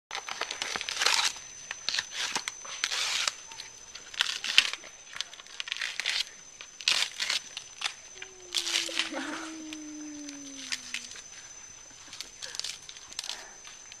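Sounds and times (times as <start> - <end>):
leafy vegetation rustling and tearing: 0.2 - 13.8.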